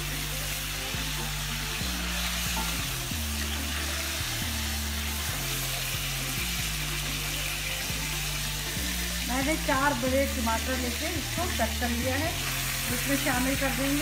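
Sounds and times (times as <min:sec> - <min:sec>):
background music with low notes: 0:00.0 - 0:14.0
chicken sizzling in hot oil: 0:00.0 - 0:14.0.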